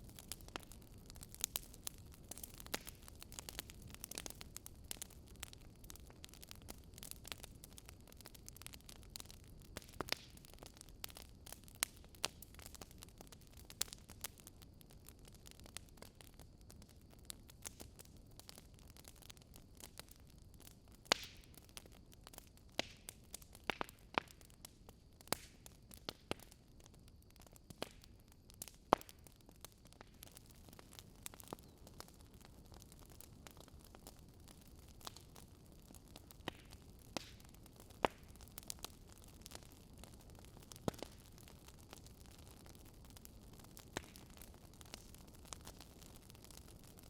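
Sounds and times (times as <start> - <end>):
log fire crackling: 0.0 - 47.0
soft hiss of burning wood: 0.0 - 47.0.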